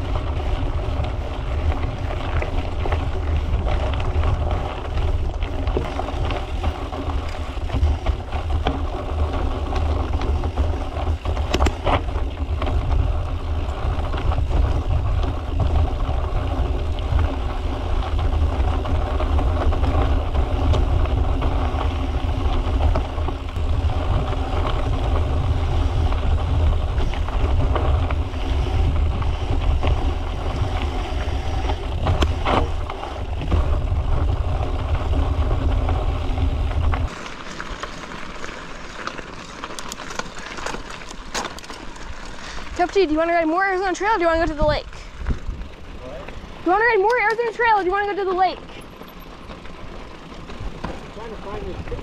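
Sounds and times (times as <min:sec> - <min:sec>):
wind buffeting microphone: 0:00.0 - 0:37.1, 0:42.0 - 0:48.6
bike tyres rolling on dirt: 0:00.0 - 0:52.0.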